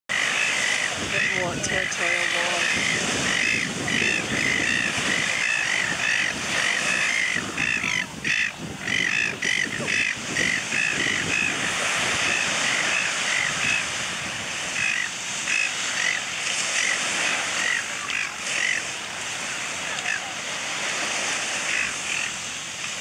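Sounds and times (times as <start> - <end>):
gulls screeching: 0.1 - 22.5.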